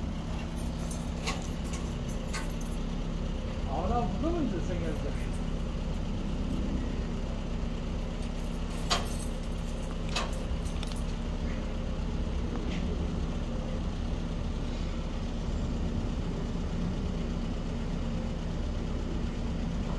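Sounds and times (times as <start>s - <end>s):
vehicle engine idling: 0.0s - 19.9s.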